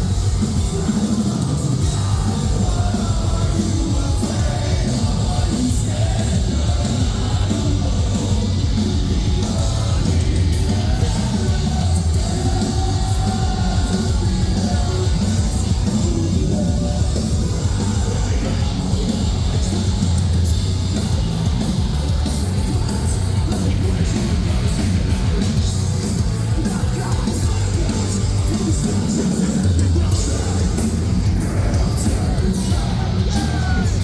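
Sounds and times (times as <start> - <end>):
bass guitar: 0.0 - 34.0
drums: 0.0 - 34.0
heavy distorted guitars: 0.0 - 34.0
shouted and sung vocals: 0.0 - 34.0.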